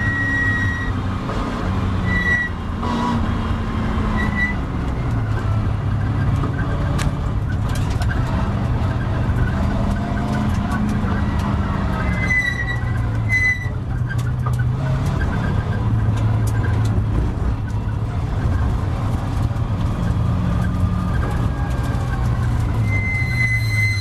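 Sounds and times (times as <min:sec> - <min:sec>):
car engine at low revs: 0:01.0 - 0:22.8.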